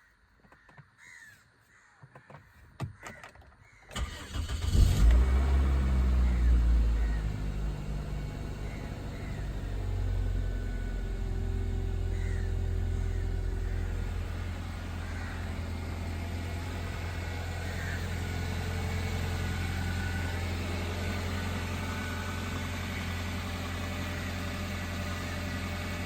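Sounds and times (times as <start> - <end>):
car engine idling: 4.0 - 26.0.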